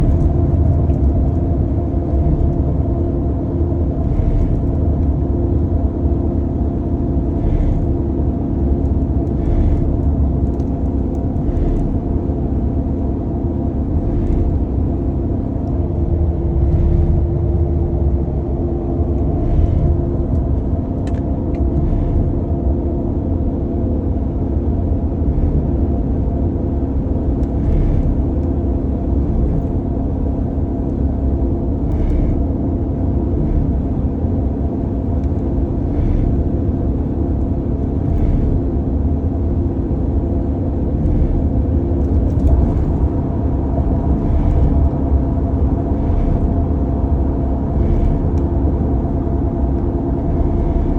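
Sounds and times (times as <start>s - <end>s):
faint intermittent grinding: 0.0s - 50.9s
truck engine rumbling: 0.0s - 50.9s.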